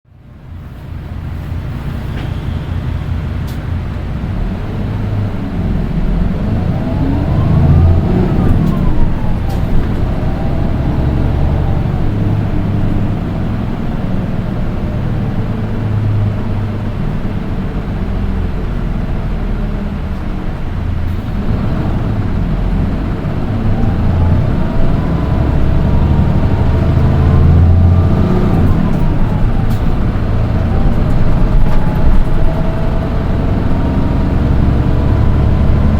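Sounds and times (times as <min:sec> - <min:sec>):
bus diesel engine rumble: 0:00.1 - 0:35.9
high-pitched engine whine: 0:01.6 - 0:18.8, 0:21.1 - 0:35.9.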